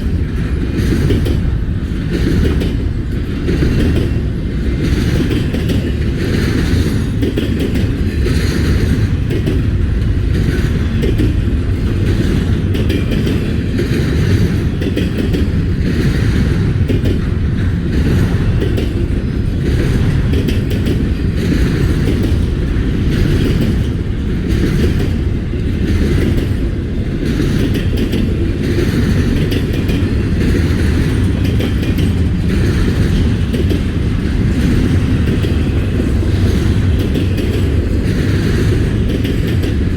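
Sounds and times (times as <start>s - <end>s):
freight train rumbling past: 0.0s - 39.9s
wheels clacking over rail joints: 0.0s - 39.9s.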